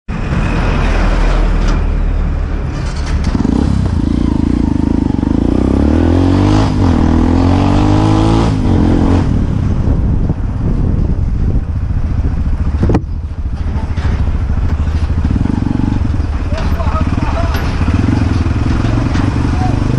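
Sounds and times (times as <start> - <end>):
road noise: 0.1 - 19.9
motorcycle engine revving: 2.8 - 19.9.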